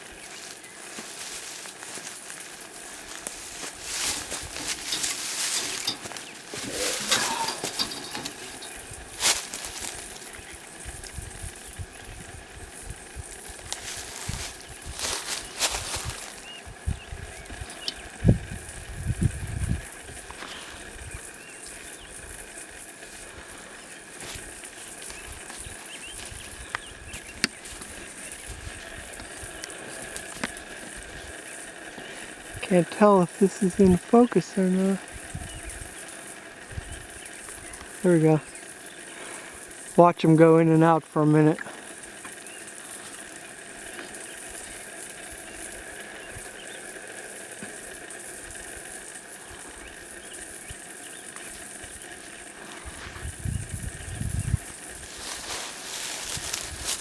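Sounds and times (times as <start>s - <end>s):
honey bees buzzing: 0.0s - 57.0s
outdoor background hum: 0.0s - 57.0s.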